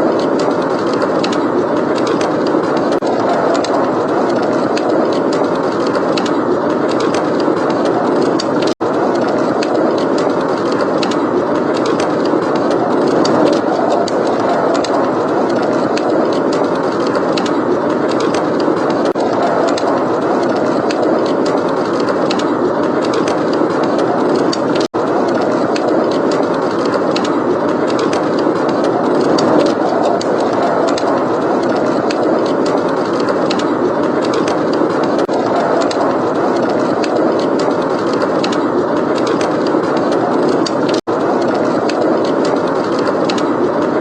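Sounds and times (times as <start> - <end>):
blizzard wind: 0.0 - 44.0
wood fire crackling: 0.0 - 44.0.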